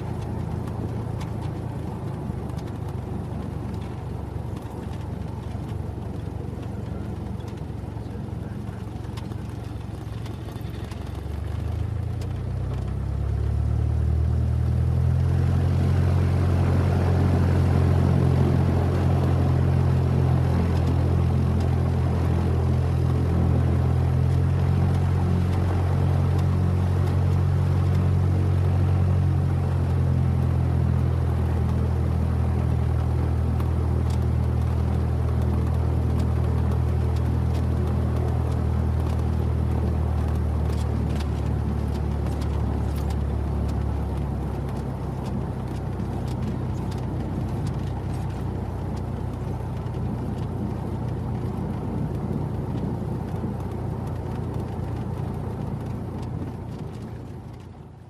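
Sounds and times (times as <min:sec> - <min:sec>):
propeller engine drone: 0:00.0 - 0:58.0.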